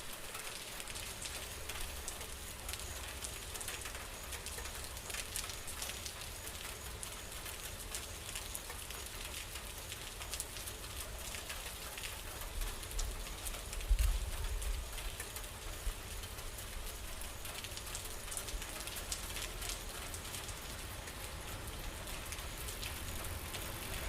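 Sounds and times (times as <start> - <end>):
rain drops ticking: 0.0 - 24.0
rain hiss: 0.0 - 24.0.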